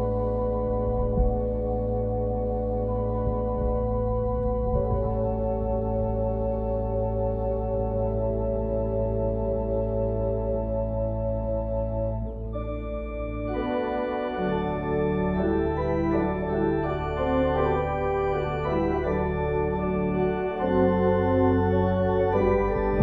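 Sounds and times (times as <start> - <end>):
low bass notes: 0.0 - 23.0
organ chords: 0.0 - 23.0.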